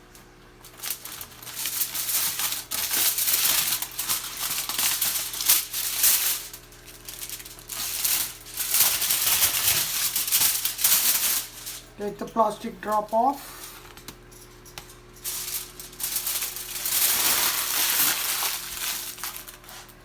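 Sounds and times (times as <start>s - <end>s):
wrap crinkling and rustling: 0.6s - 20.0s.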